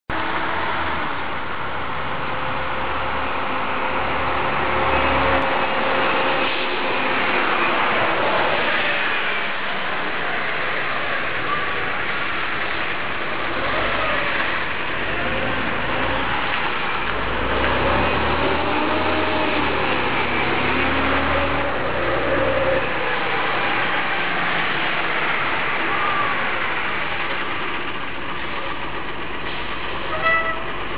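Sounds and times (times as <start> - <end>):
double-decker bus driving past: 0.1 - 30.9
road traffic noise: 0.1 - 30.9.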